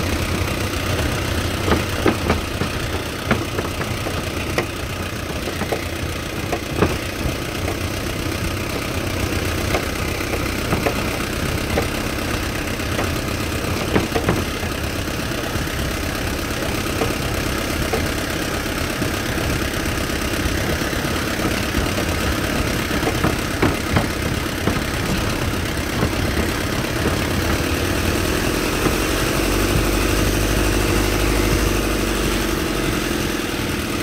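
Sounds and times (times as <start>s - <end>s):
truck body knocking: 0.0s - 34.0s
truck engine running: 0.0s - 34.0s.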